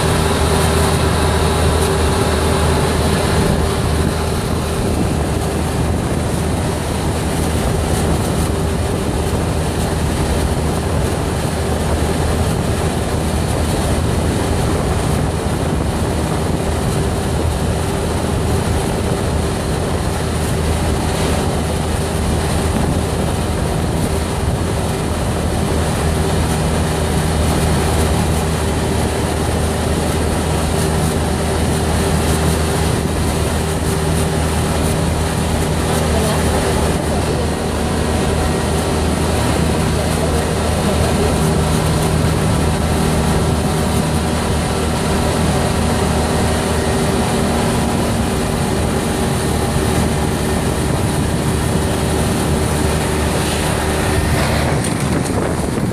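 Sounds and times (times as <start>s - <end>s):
golf cart motor hum: 0.0s - 55.9s
wind and road noise: 0.0s - 55.9s.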